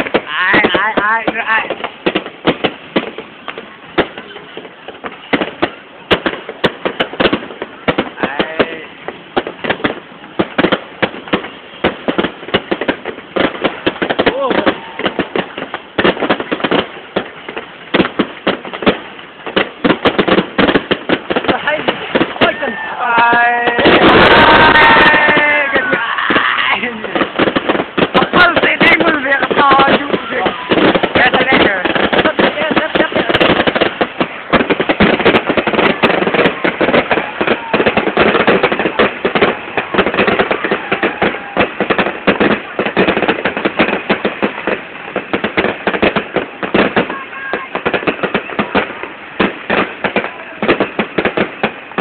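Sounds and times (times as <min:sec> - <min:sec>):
fireworks bangs and cracks: 0:00.0 - 0:52.0.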